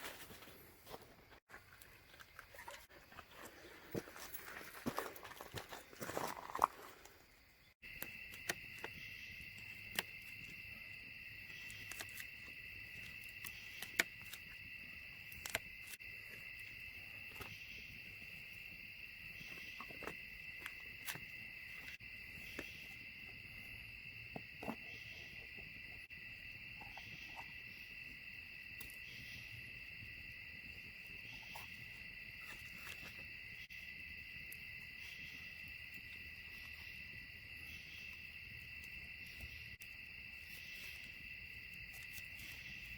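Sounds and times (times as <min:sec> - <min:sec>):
crickets trilling: 0:00.8 - 0:42.9.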